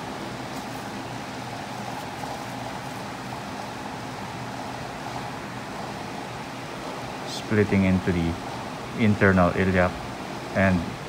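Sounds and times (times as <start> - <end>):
constant hiss: 0.0 - 11.0
faint hum: 0.0 - 11.0.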